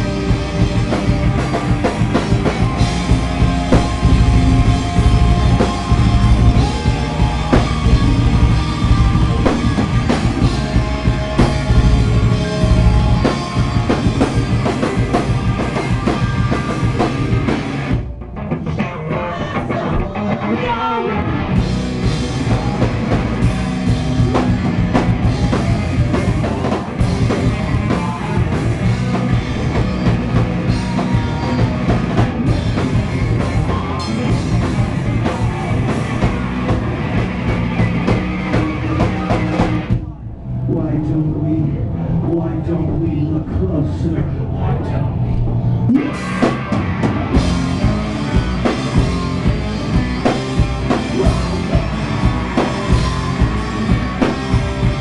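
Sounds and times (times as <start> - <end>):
live rock band playing: 0.0 - 40.2, 45.8 - 55.0
pitch-bending guitar line: 0.0 - 55.0.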